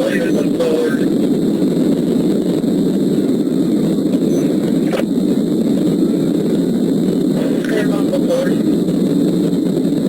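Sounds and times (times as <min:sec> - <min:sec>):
road and wind noise inside car: 0:00.0 - 0:10.0.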